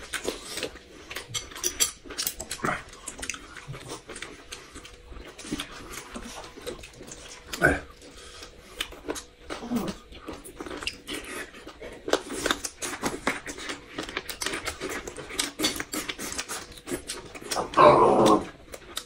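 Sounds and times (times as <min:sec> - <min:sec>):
chewing and biting: 0:00.0 - 0:19.0.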